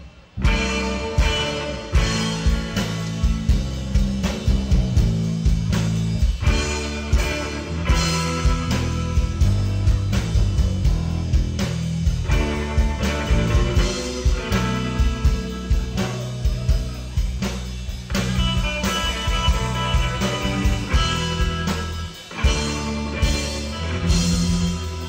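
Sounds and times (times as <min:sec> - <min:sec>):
rock music: 0:00.0 - 0:25.0.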